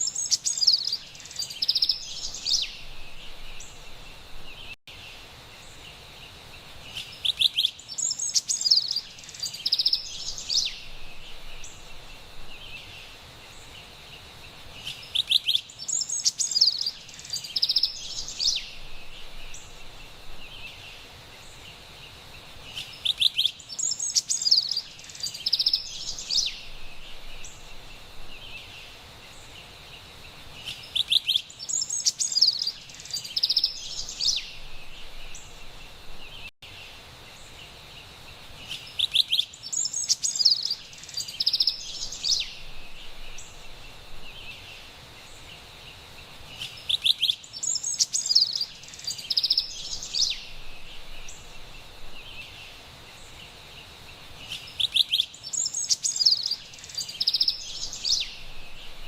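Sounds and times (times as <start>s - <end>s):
wren singing: 0.0s - 4.8s, 6.9s - 13.8s, 14.8s - 21.6s, 22.6s - 29.6s, 30.5s - 36.5s, 38.6s - 45.7s, 46.5s - 59.0s
faint steady background hiss: 0.0s - 59.0s.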